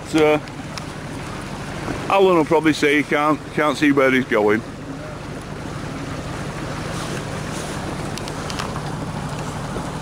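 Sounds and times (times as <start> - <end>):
boat engine drone: 0.0 - 10.0.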